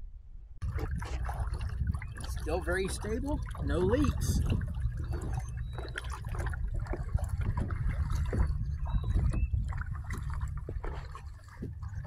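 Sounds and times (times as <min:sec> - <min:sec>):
steady low rumble: 0:00.0 - 0:12.0
paddle splashing and dripping: 0:00.6 - 0:12.0.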